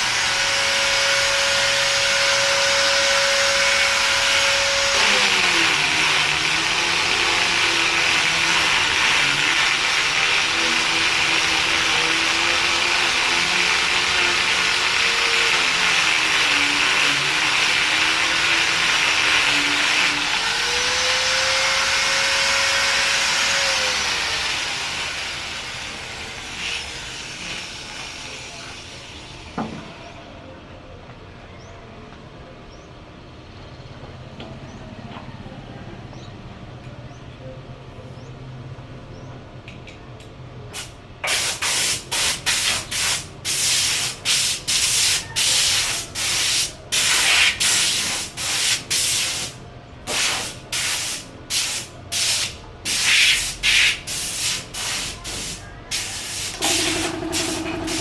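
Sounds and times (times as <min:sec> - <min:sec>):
power tool motor hissing: 0:00.0 - 0:29.6, 0:40.8 - 0:58.0.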